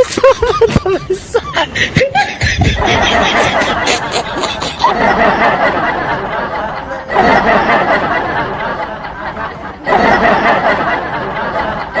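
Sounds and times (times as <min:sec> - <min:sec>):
laughter: 0:00.0 - 0:12.0
people chattering: 0:00.0 - 0:12.0.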